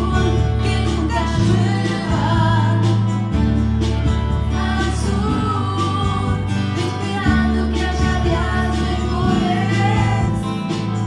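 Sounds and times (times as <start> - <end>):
person singing melody: 0.0 - 3.4, 4.4 - 11.0
live band music: 0.0 - 11.0
sustained bass notes: 0.0 - 11.0.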